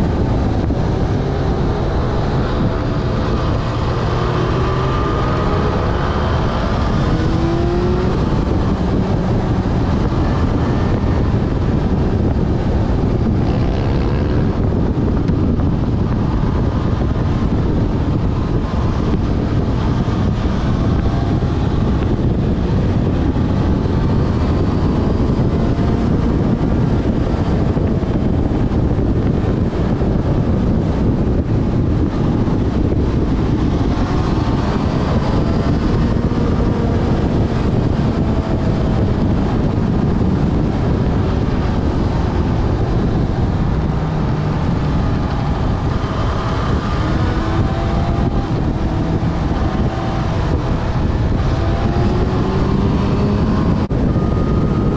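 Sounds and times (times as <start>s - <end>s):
motorcycle engine revving: 0.0s - 54.9s
wind rushing over microphone: 0.0s - 54.9s.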